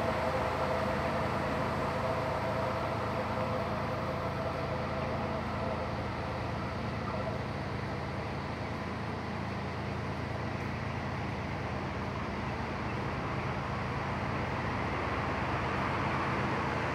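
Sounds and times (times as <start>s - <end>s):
distant train engine hum: 0.0s - 16.9s
train rumble: 0.0s - 16.9s.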